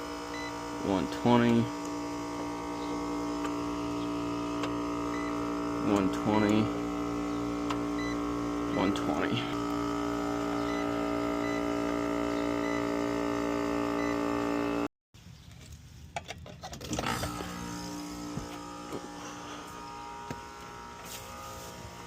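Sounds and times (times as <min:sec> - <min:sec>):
electrical hum of condensing unit: 0:00.0 - 0:14.9, 0:17.0 - 0:22.0.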